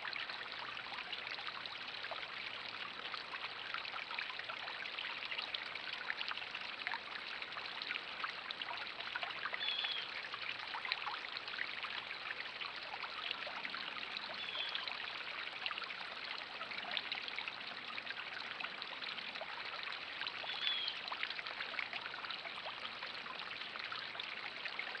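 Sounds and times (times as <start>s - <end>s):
trickling water: 0.0s - 25.0s.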